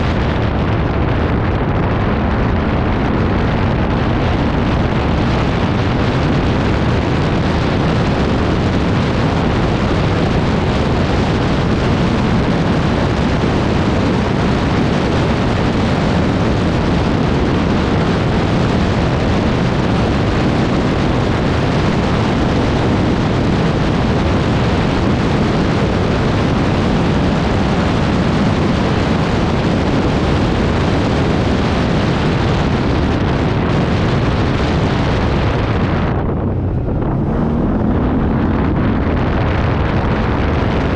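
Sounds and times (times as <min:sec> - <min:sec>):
quad engine running: 0:00.0 - 0:40.9
wind buffeting microphone: 0:00.0 - 0:40.9.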